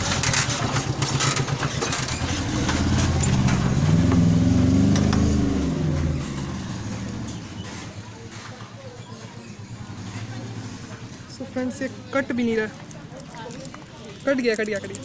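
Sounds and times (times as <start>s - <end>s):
passing vehicle engine: 0.0s - 13.2s.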